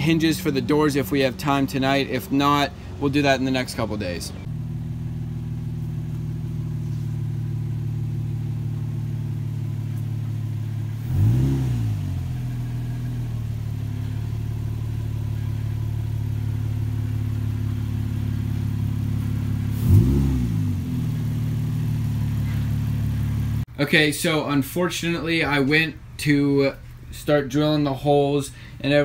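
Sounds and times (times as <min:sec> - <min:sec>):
car engine idling with throttle blips: 0:00.0 - 0:23.7.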